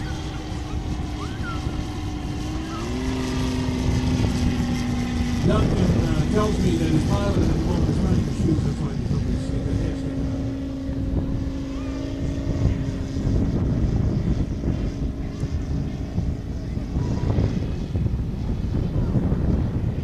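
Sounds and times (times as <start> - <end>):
model plane engine droning: 0.0 - 20.0
wind rumbling on microphone: 0.0 - 20.0.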